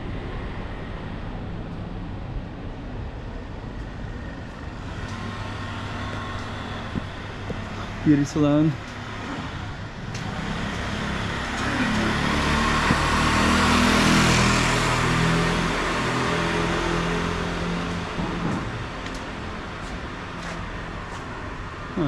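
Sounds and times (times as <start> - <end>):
vehicle driving past: 4.3 - 22.0.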